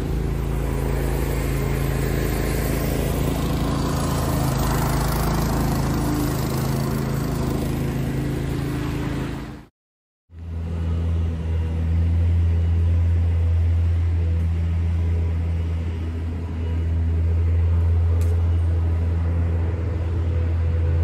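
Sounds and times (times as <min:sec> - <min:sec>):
low mechanical street hum: 0:00.0 - 0:09.6, 0:10.3 - 0:21.0.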